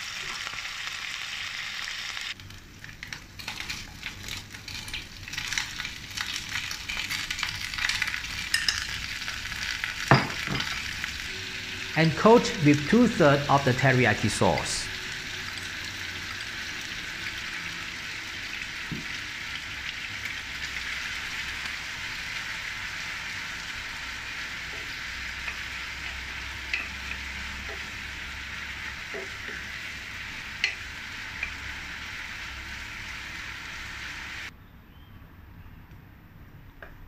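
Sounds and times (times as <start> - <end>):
chicken sizzling in frying pan: 0.0 - 34.5.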